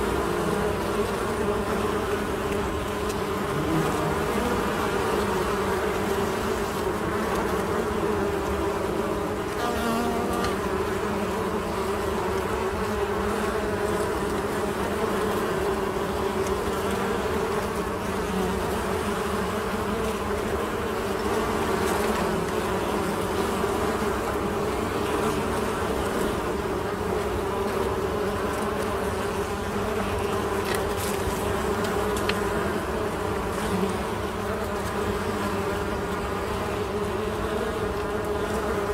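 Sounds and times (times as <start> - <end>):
honey bees buzzing: 0.0 - 38.9.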